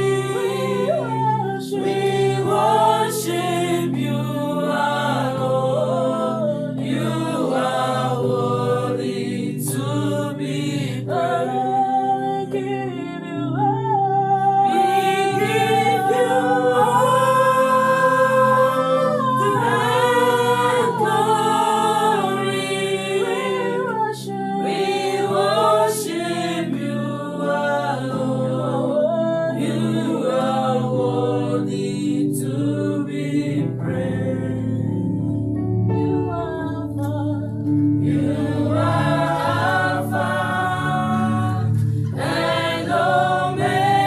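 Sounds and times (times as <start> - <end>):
voices singing worship song: 0.0 - 44.0.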